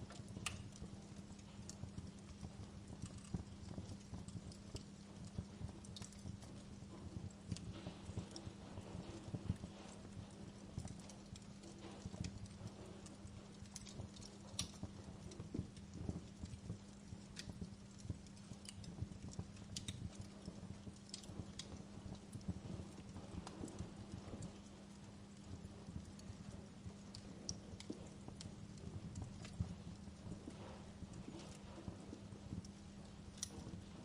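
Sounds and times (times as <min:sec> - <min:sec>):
faint steady hum: 0:00.0 - 0:34.0
wood fire crackling: 0:00.0 - 0:34.0.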